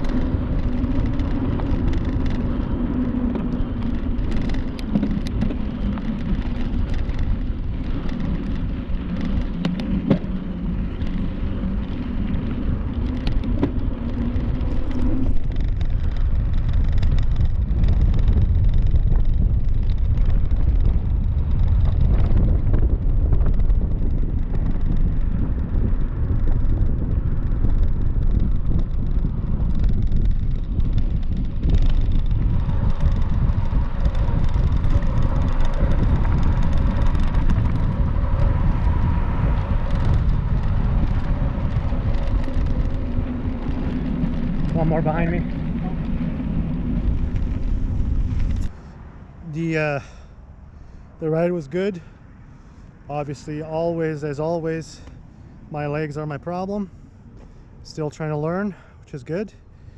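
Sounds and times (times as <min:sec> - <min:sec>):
small clicks and rattles: 0:00.0 - 0:48.7
tyres rolling on trail: 0:00.0 - 0:59.9
wind rushing over microphone: 0:00.0 - 0:59.9.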